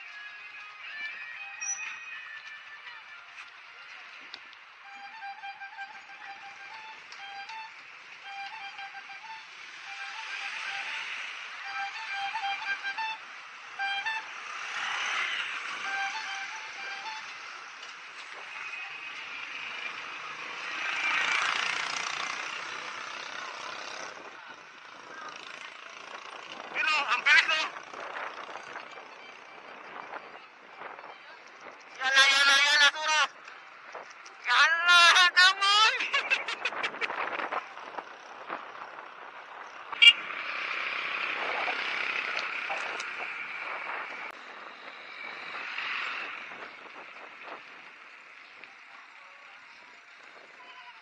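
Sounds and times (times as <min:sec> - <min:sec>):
traffic: 0:00.0 - 0:51.0.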